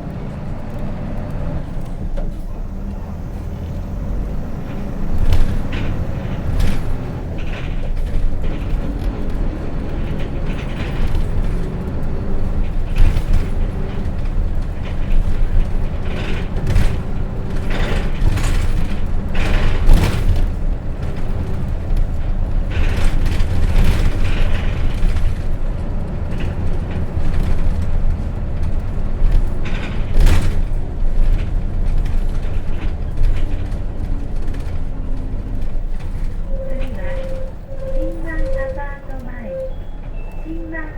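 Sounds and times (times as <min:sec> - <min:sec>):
bus body rattling and creaking: 0:00.0 - 0:40.9
diesel bus engine rumble: 0:00.0 - 0:40.9.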